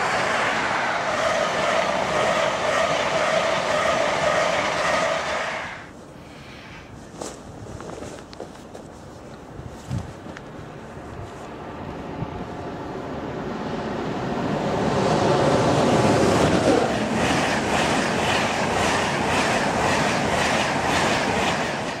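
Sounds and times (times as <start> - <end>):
train passing at speed: 0.0 - 7.2, 10.3 - 22.0.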